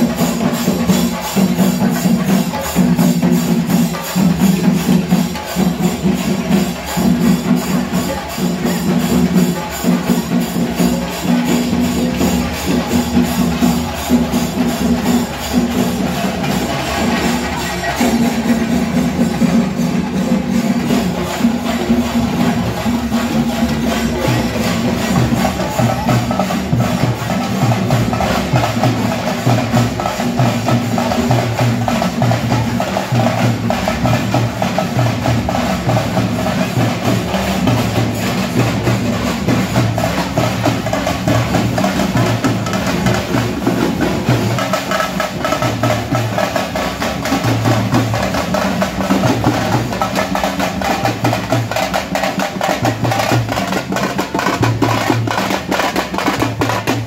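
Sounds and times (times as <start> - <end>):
frame drums beaten fast: 0.0 - 57.0.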